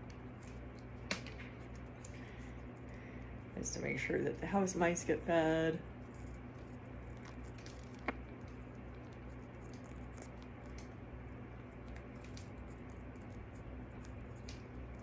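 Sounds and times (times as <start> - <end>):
bird crunching food: 0.0 - 3.8, 5.8 - 15.0
faint low hum: 0.0 - 15.0.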